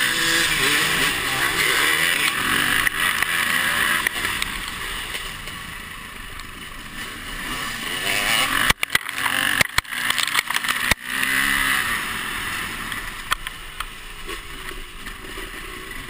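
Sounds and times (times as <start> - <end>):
dirt bike engine revving: 0.0 - 13.4.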